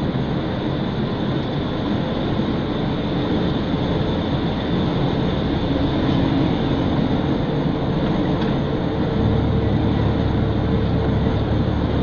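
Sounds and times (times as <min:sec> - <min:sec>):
lorry engine drone and road noise: 0:00.0 - 0:12.0.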